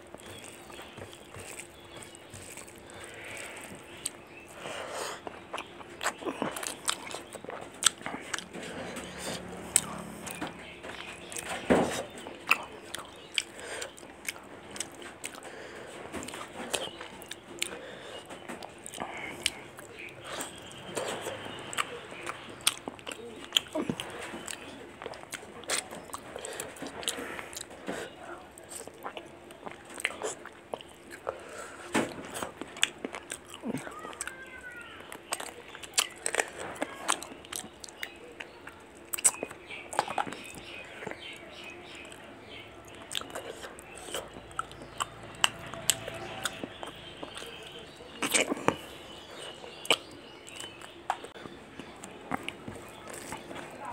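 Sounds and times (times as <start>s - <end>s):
person chewing food: 0.0s - 53.9s
mouth clicks and smacks: 0.1s - 15.5s, 16.1s - 31.4s, 35.1s - 53.7s.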